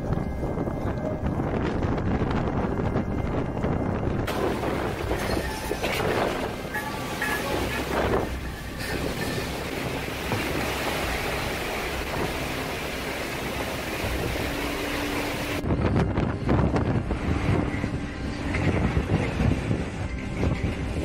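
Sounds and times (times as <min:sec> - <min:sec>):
low rumbling: 0:00.0 - 0:21.0
storm wind buffeting microphone: 0:00.0 - 0:21.0.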